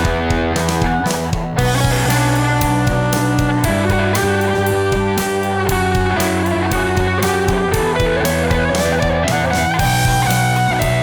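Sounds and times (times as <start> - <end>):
instrumental rock music: 0.0 - 11.0.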